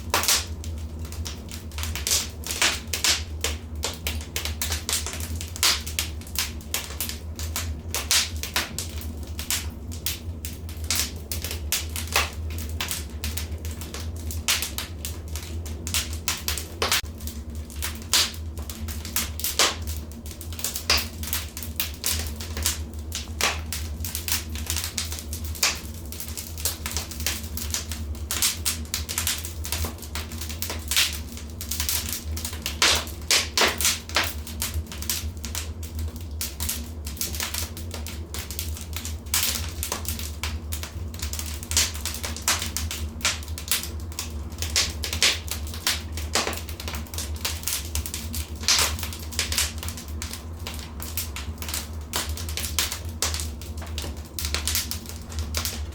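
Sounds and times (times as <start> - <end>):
fire crackling and popping: 0.0 - 55.9
low rumble of flames: 0.0 - 55.9.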